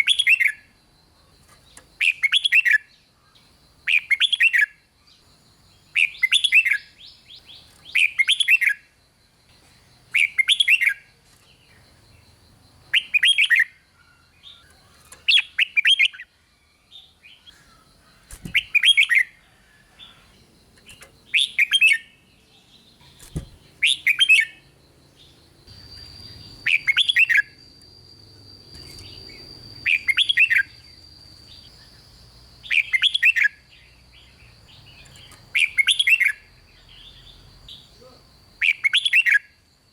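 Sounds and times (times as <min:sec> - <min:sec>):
bird singing warbling phrases: 0:00.0 - 0:39.6.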